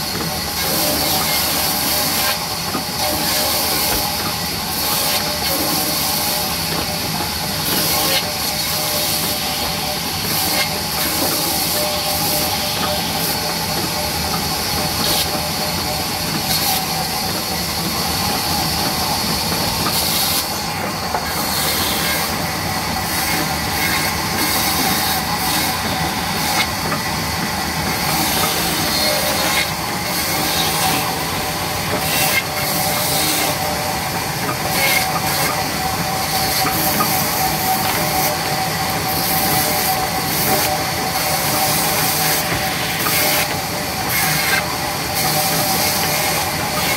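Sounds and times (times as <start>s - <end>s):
band saw cutting wood: 0.0s - 46.9s.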